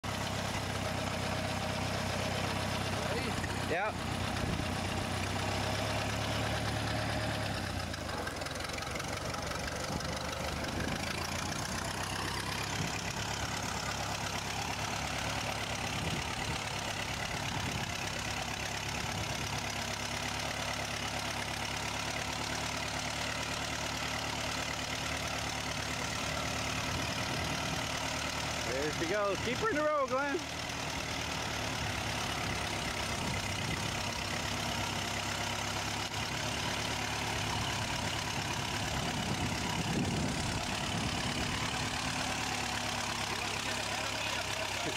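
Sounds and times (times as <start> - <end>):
tractor engine running under load: 0.0 - 44.9.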